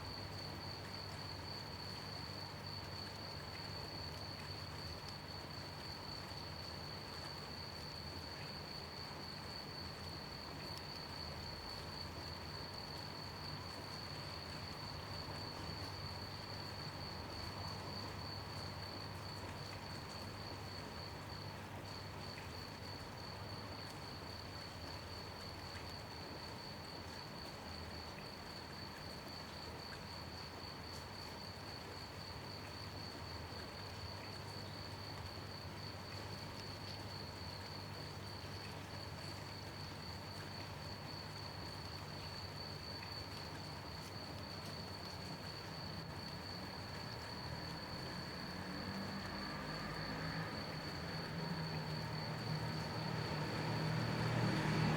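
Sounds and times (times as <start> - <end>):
gentle rain hiss: 0.0 - 54.9.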